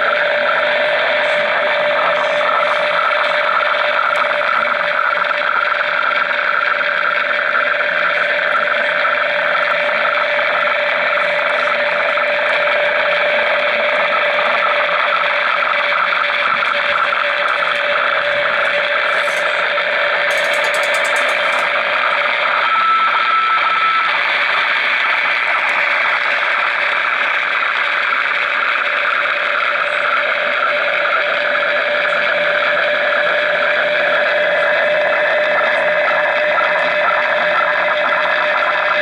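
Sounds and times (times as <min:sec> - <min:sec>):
radio buzzing hiss with tones: 0:00.0 - 0:39.0.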